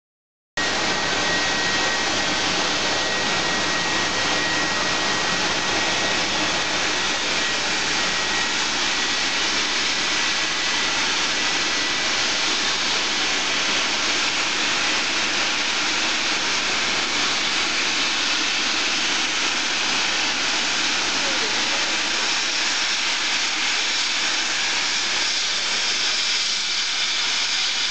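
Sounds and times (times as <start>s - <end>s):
steam hissing from locomotive: 0.7s - 27.9s.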